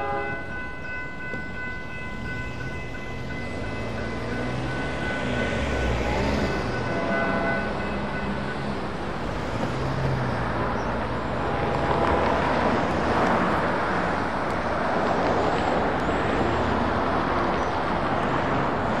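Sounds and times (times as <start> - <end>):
cars passing on highway: 0.0 - 19.0.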